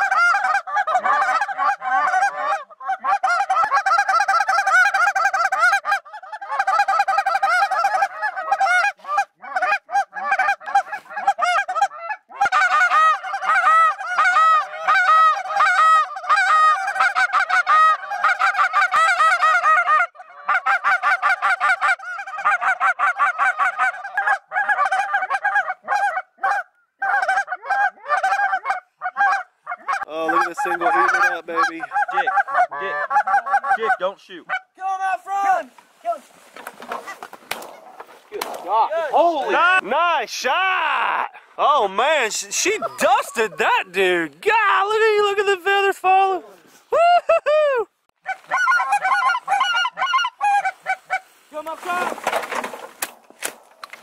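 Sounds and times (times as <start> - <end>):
geese honking: 0.0 - 40.7, 41.6 - 46.8, 48.2 - 54.0.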